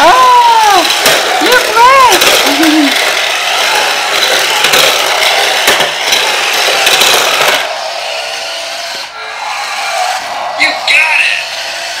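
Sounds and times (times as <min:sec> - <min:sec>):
toy car motor whirring: 0:00.0 - 0:12.0.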